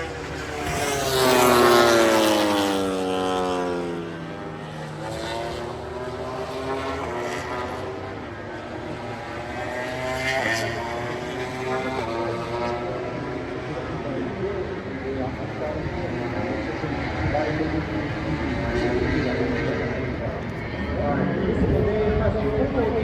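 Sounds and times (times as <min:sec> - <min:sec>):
racing motorcycles passing: 0:00.0 - 0:23.0.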